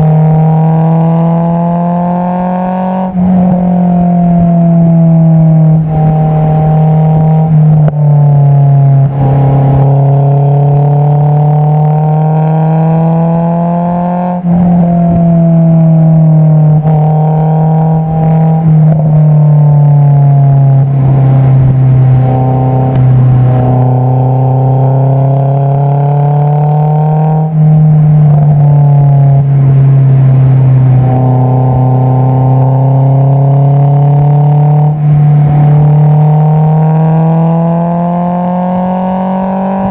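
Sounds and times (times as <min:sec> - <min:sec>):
car exhaust drone: 0:00.0 - 0:39.9
gear changes: 0:00.0 - 0:39.9.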